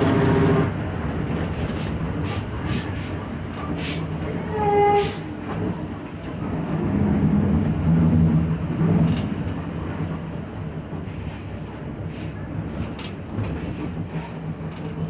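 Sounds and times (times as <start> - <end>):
bus cabin rumble and rattle: 0.0 - 15.0.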